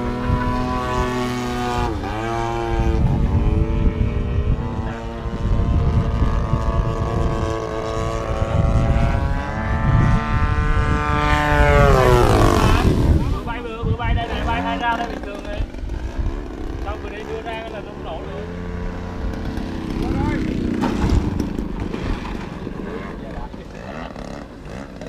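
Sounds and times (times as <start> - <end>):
model airplane motor droning: 0.0 - 13.6, 14.2 - 20.8, 22.7 - 25.0.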